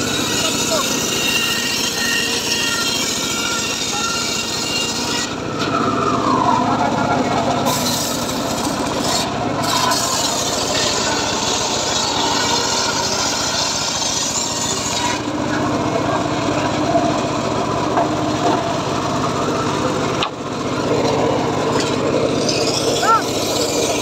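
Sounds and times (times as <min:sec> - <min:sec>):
circular saw cutting wood: 0:00.0 - 0:24.0
saw drive motor running: 0:00.0 - 0:24.0.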